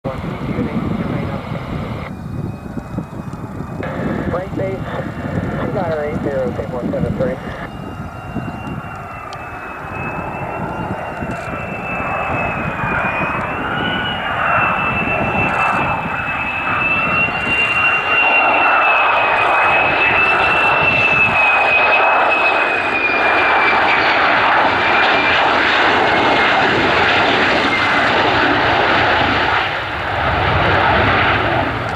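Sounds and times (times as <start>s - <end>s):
jet engine high whine: 0.1s - 31.9s.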